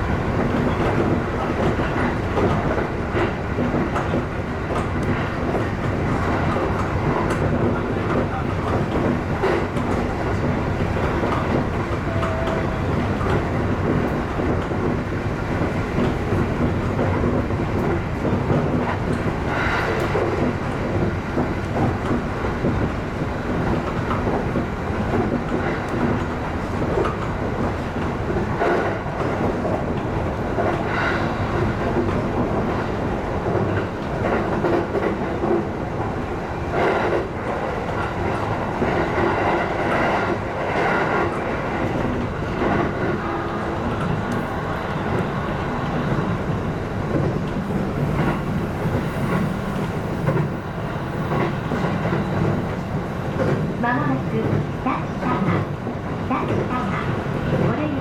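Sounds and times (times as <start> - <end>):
loud train clacks: 0.0 - 58.0
train wheels rumbling on rail: 0.0 - 58.0.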